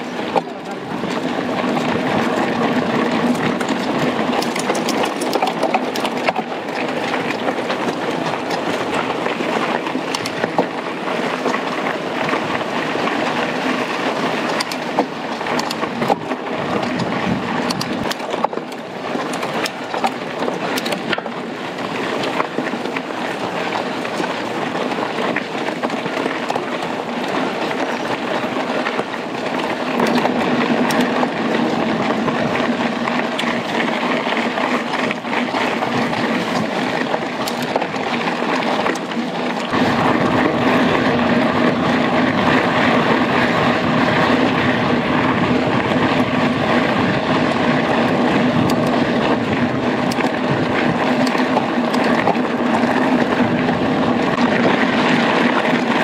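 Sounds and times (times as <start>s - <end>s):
bike rattling over bumps: 0.0s - 56.0s
bike tyres on dirt trail: 0.0s - 56.0s.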